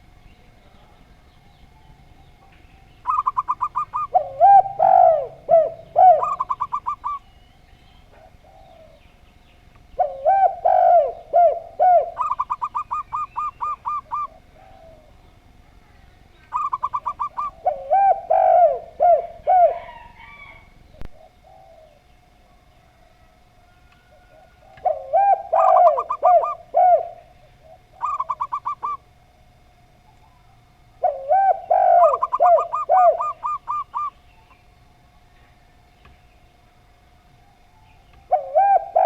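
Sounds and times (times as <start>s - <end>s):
doves cooing: 0.0s - 35.0s, 36.5s - 39.0s.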